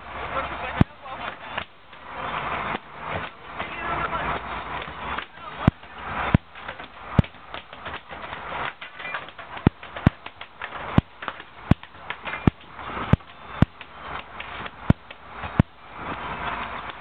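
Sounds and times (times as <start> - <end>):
steady rushing noise: 0.0 - 17.0
sharp knocks: 0.7 - 2.1, 4.4 - 17.0.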